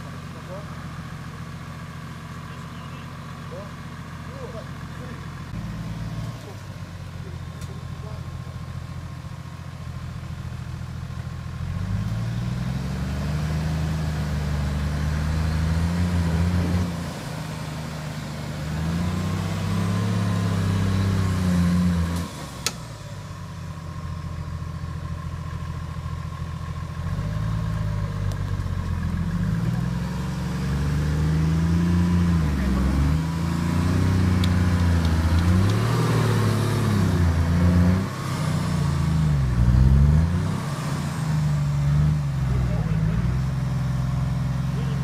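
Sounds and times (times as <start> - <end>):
suv engine pulling under load: 0.0 - 45.0.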